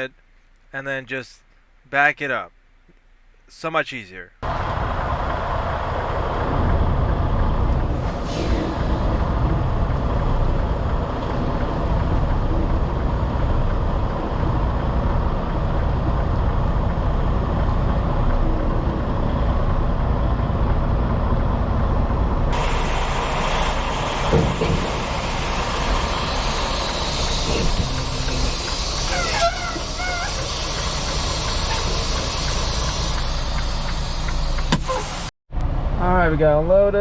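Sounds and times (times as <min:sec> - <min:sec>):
diesel truck engine rumbling: 0:03.5 - 0:37.0.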